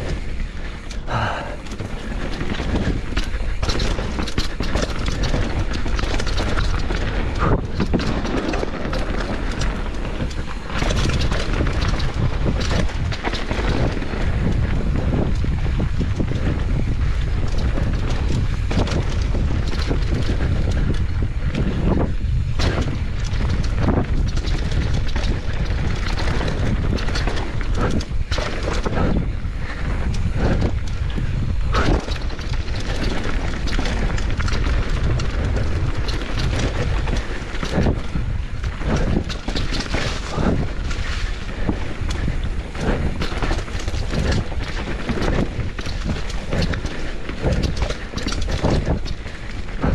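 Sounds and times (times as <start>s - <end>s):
bike knocking and rattling: 0.0s - 49.9s
tyres rolling over dirt and stones: 0.0s - 49.9s
wind buffeting microphone: 0.0s - 49.9s.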